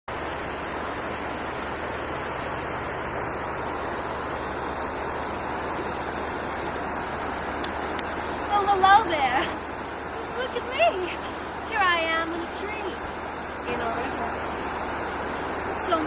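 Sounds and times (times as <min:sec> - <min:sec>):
river water rushing: 0:00.1 - 0:16.0.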